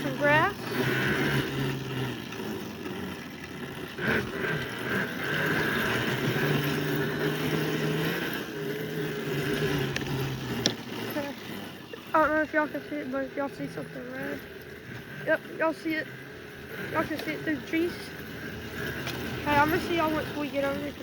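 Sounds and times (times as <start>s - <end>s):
small vehicle motor running: 0.0s - 21.0s.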